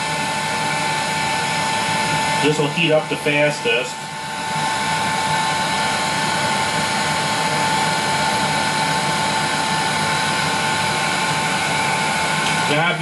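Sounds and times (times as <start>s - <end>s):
heat gun blowing air: 0.0s - 13.0s.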